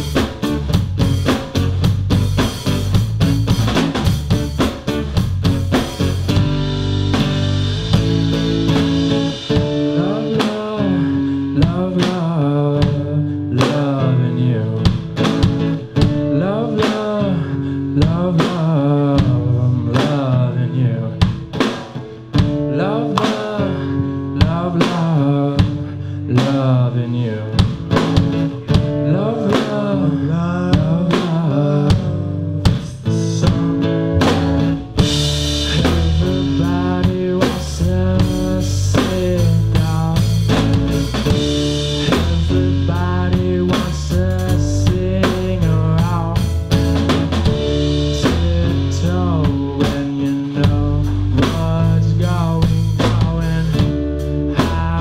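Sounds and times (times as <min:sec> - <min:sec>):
drum kit beat: 0:00.0 - 0:17.4, 0:18.0 - 0:55.0
electric guitar melody: 0:00.0 - 0:55.0
strummed acoustic guitar: 0:00.0 - 0:55.0.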